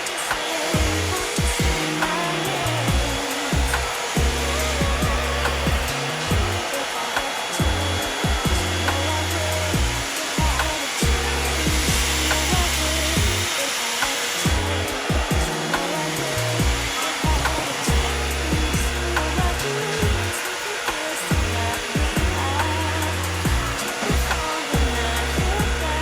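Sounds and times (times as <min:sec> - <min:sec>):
hot air brush hissing: 0:00.0 - 0:25.9
background music with bass: 0:00.8 - 0:06.8, 0:07.6 - 0:13.6, 0:14.4 - 0:20.4, 0:21.3 - 0:26.0.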